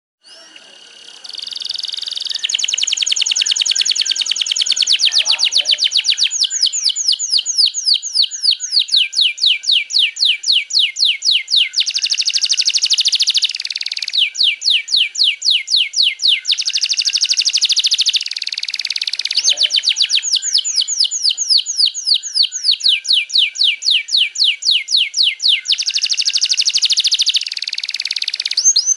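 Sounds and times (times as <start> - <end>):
canary singing trills: 0.2 - 28.9.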